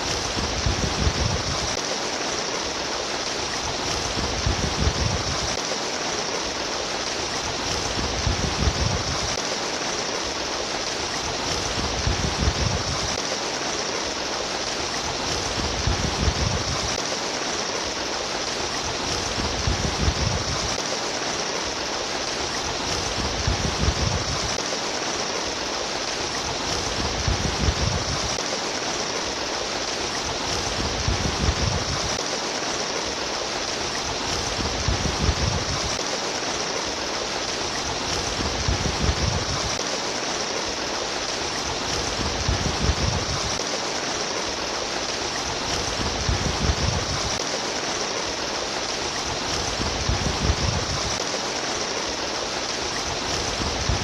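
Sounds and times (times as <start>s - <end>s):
water babbling and splashing: 0.0s - 54.0s.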